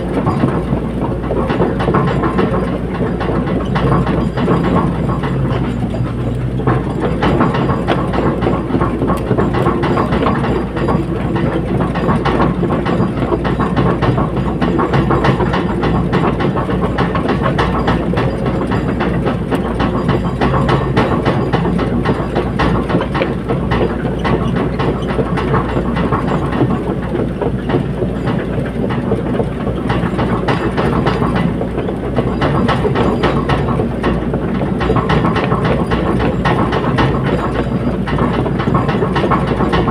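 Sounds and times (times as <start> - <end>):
excavator diesel engine running: 0.0 - 39.9
rapid metallic clatter: 0.0 - 39.9.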